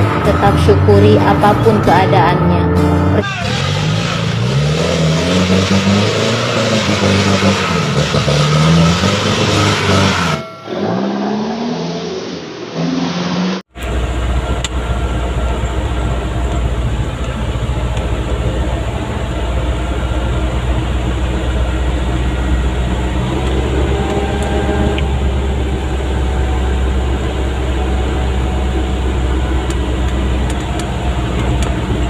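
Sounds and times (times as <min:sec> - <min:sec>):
low engine drone in cab: 0:00.0 - 0:32.0
road noise: 0:00.0 - 0:32.0
truck engine revving: 0:00.0 - 0:32.0.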